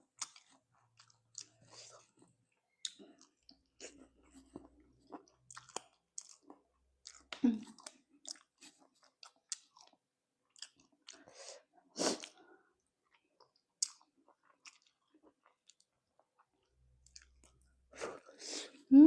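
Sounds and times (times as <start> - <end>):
wet chewing mouth sounds: 0.1 - 11.3, 12.1 - 18.4.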